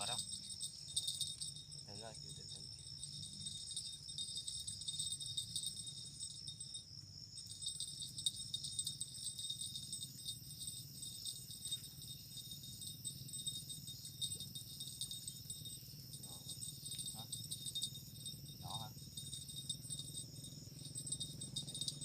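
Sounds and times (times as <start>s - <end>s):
insects shrilling: 0.0s - 22.0s.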